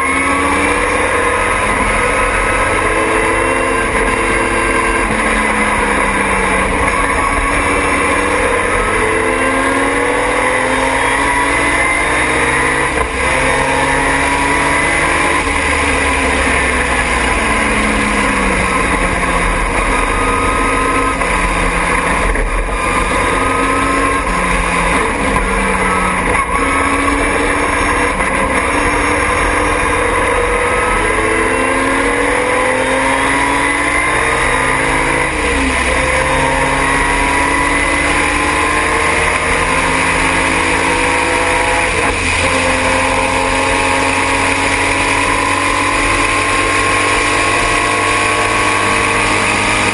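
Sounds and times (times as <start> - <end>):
race car engine revving: 0.0 - 49.9
wind and road noise: 0.0 - 49.9.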